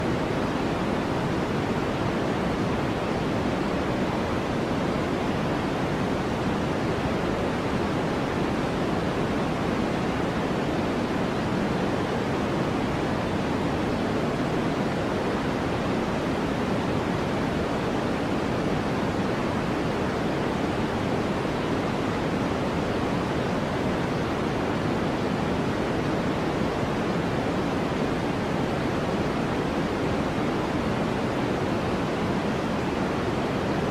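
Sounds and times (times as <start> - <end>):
white noise hiss: 0.0 - 33.9.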